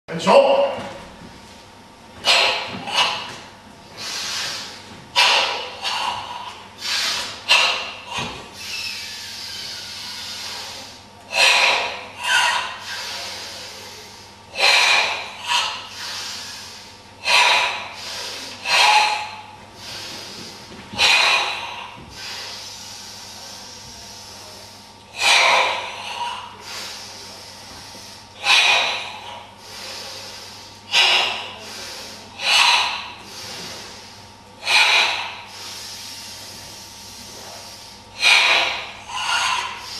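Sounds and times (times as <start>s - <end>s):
forceful hissing breathing: 2.1s - 39.9s.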